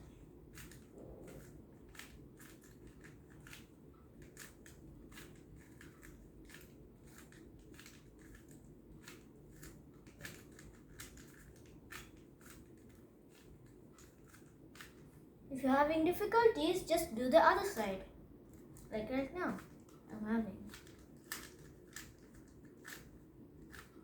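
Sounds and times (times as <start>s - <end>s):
puzzle cube plastic clicking: 0.0s - 15.1s, 19.6s - 24.0s.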